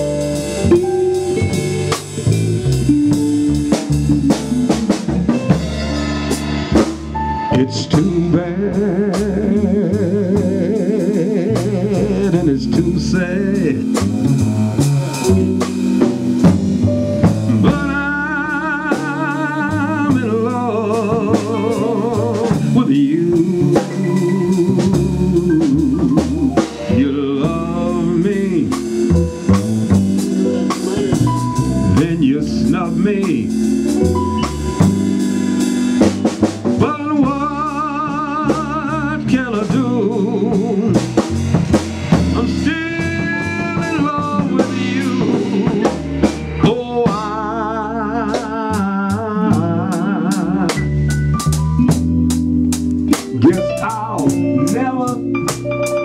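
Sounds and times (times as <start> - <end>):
drum rimshots: 0.0 - 47.6, 50.7 - 56.0
band playing slow blues: 0.0 - 56.0
lead melody with vibrato: 0.0 - 56.0.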